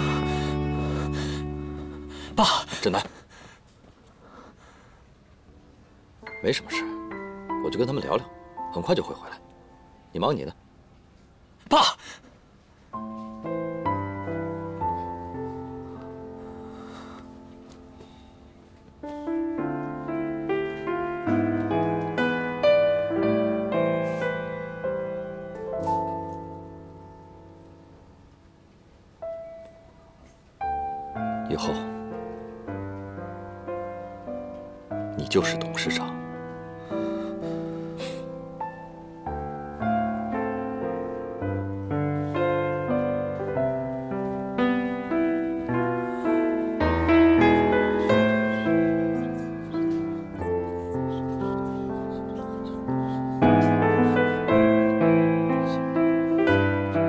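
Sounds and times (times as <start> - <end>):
slow sad piano music: 0.0 - 4.5, 5.1 - 57.0.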